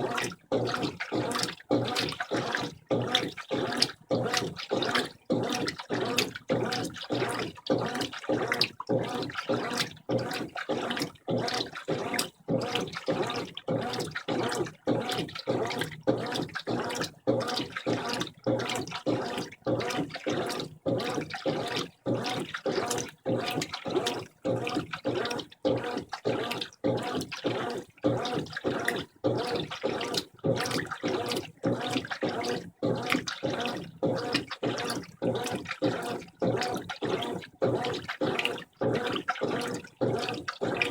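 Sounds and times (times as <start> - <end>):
washing machine water churning: 0.0 - 40.9.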